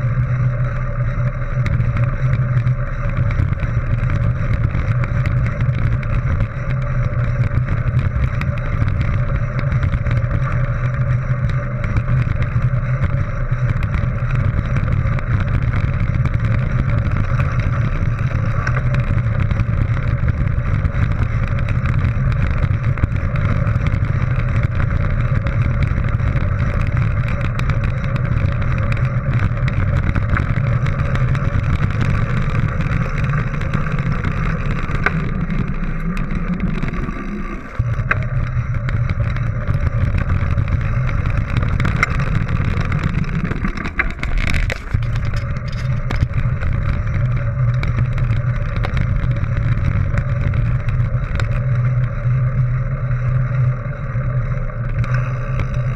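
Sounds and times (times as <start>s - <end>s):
bicycle tyres rolling on gravel: 0.0s - 55.9s
faint clicks from stones and bike: 0.0s - 55.9s.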